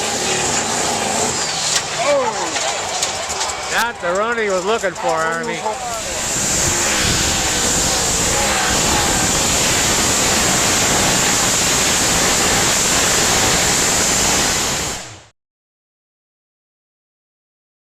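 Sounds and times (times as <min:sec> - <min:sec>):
tractor engine roaring: 0:00.0 - 0:15.3.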